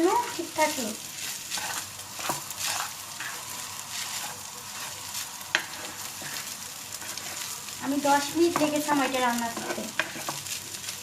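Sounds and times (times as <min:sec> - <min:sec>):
rice sizzling in a hot pan: 0:00.0 - 0:11.0
stirring scraping strokes: 0:00.2 - 0:11.0.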